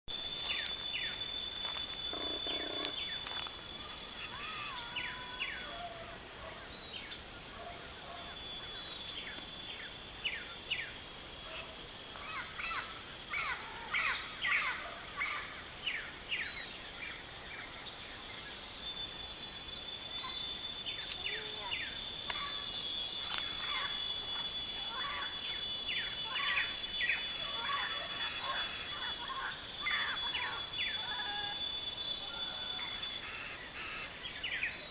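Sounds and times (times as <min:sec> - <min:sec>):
small birds chirping: 0:00.1 - 0:06.1, 0:06.7 - 0:34.9
high insect drone: 0:00.1 - 0:34.9.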